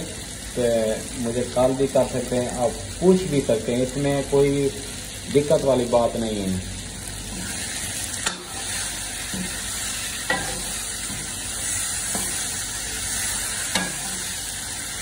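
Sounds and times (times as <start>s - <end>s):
meat and potatoes sizzling: 0.0s - 15.0s.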